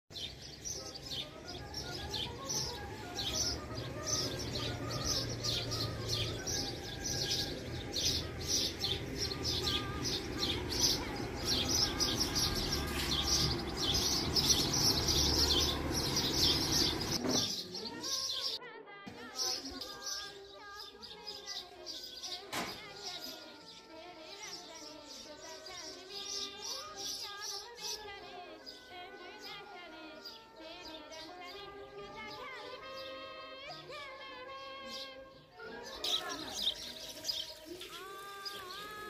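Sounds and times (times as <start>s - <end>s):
small songbirds chirping: 0.1s - 18.6s, 19.3s - 31.7s, 34.9s - 39.0s.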